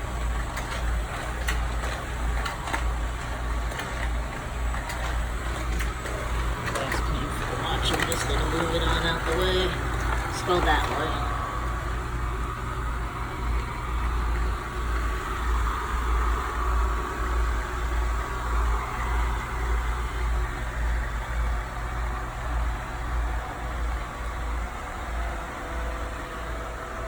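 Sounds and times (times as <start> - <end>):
robot vacuum motor hum: 0.0 - 27.0.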